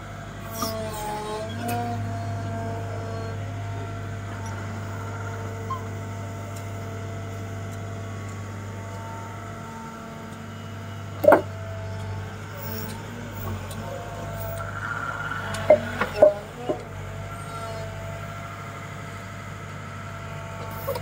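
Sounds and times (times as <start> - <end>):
excavator diesel engine and hydraulics: 0.0 - 21.0.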